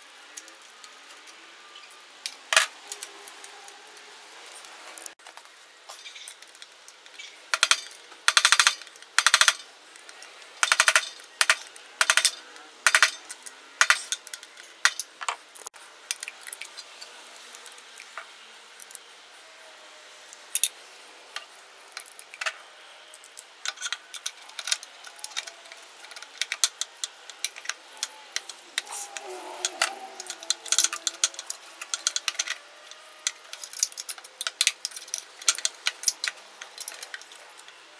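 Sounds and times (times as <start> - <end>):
tools and metal parts clinking: 0.2 - 4.7, 5.9 - 19.1, 20.2 - 37.9.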